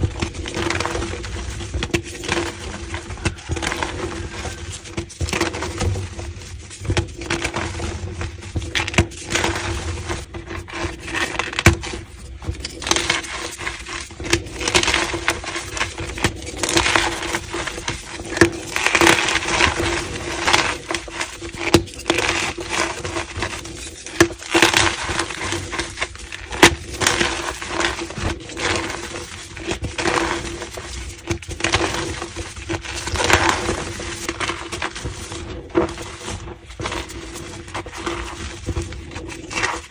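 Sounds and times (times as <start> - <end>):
chalk blocks being crushed: 0.0 - 39.9.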